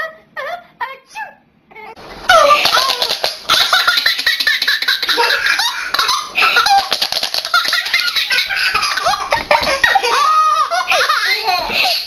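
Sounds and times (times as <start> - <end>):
baby laughing: 2.2 - 12.0.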